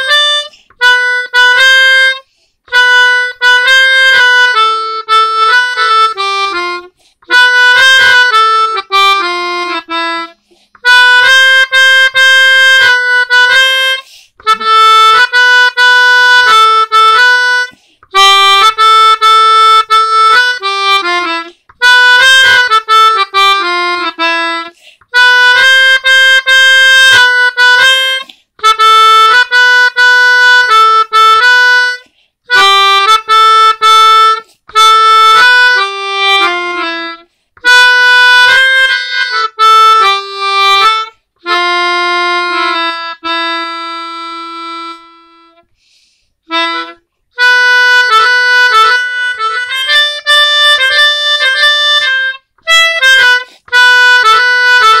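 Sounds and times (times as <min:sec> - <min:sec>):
melodica melody: 0:00.0 - 0:55.0.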